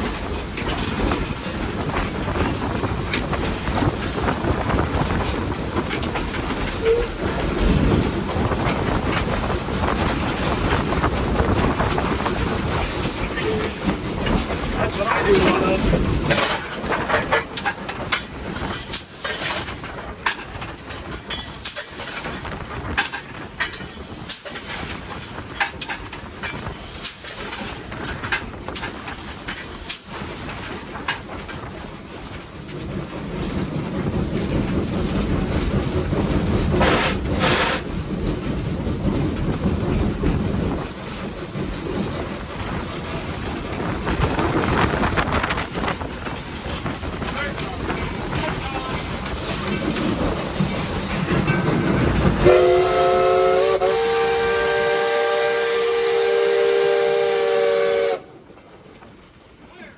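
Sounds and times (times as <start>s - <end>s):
steam locomotive hissing: 0.0s - 58.4s
locomotive rushing noise: 0.0s - 59.9s.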